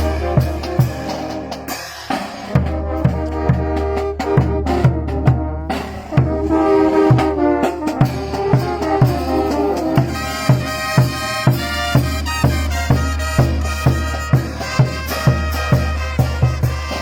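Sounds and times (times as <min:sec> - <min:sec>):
horns playing a melody: 0:00.0 - 0:17.0
bass drum beat: 0:02.6 - 0:17.0.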